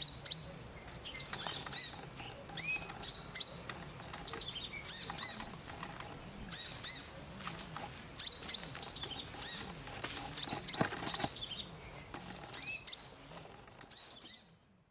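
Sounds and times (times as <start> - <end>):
bird chirping: 0.0 - 7.4, 8.2 - 14.8.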